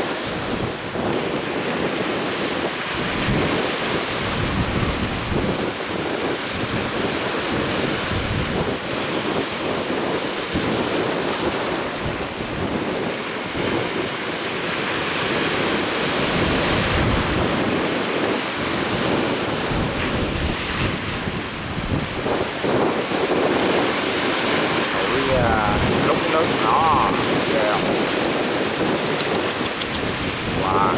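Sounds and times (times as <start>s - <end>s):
rough sea waves: 0.0s - 30.9s
wind buffeting microphone: 0.0s - 30.9s.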